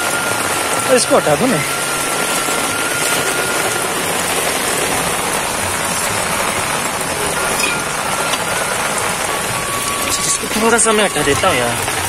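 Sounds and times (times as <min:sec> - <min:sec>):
heavy rain on tin and concrete: 0:00.0 - 0:12.0.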